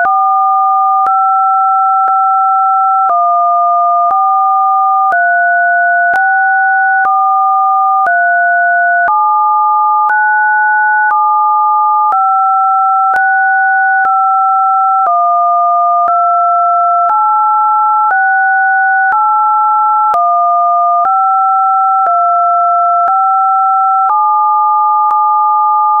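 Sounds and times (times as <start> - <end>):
electronic sine tones: 0.0 - 19.2, 20.0 - 26.0.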